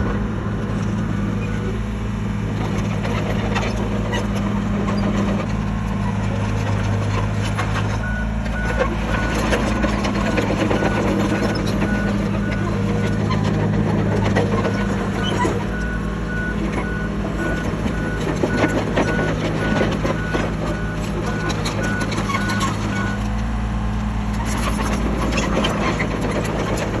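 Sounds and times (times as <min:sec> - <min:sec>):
bulldozer diesel engine: 0:00.0 - 0:27.0.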